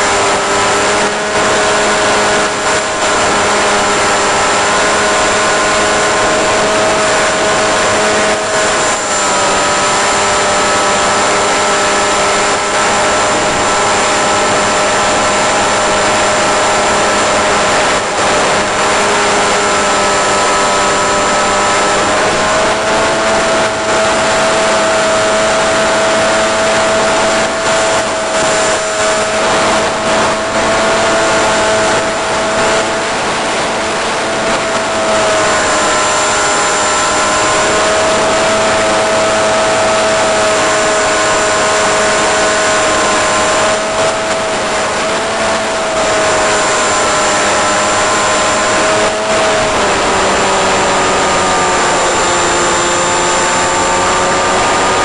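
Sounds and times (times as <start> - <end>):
electric motor and propeller whining: 0.0 - 55.0.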